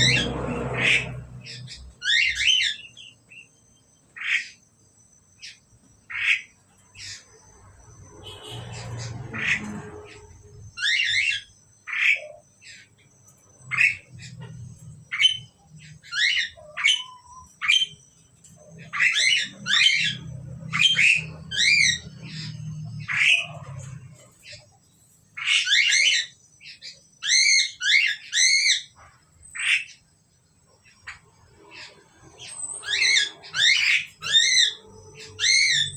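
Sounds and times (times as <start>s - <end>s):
starlings chattering calls: 0.0s - 35.9s.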